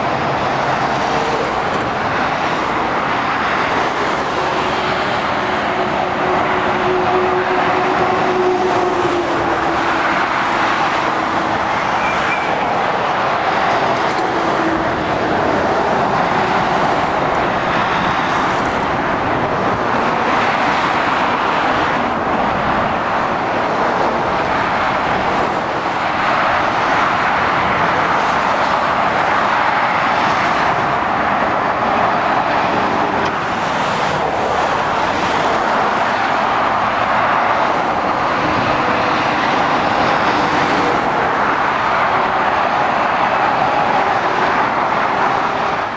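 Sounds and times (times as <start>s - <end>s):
motorway traffic rushing: 0.0s - 45.9s.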